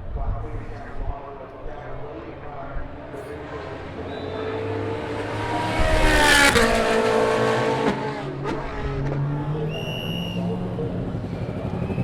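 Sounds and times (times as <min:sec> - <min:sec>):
other race car engines: 0:00.0 - 0:12.0
race car engine passing by: 0:01.7 - 0:12.0.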